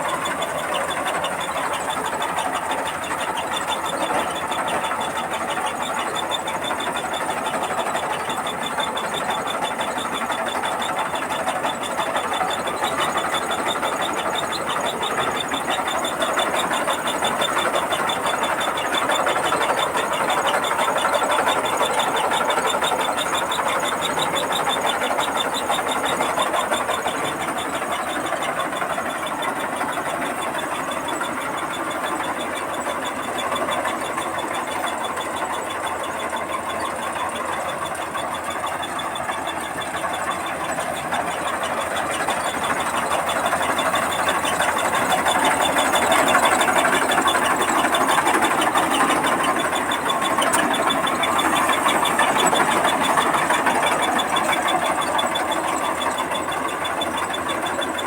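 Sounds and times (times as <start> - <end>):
combine harvester running: 0.0 - 58.0.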